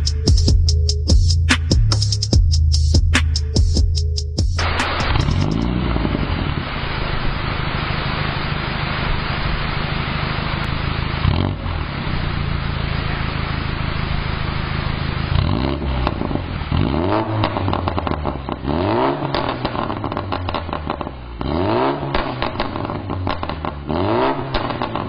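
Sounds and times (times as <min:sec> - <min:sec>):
car engine loud exhaust: 0:00.0 - 0:25.0.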